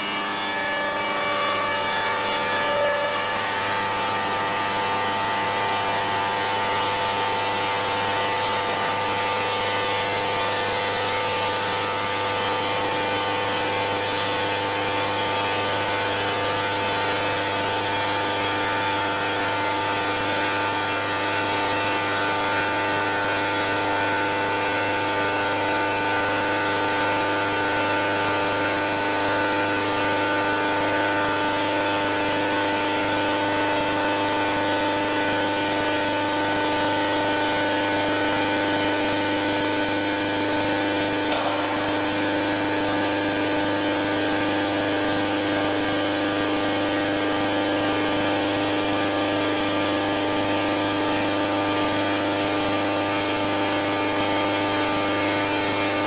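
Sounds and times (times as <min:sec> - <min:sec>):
router spindle high whine: 0:00.0 - 0:56.0.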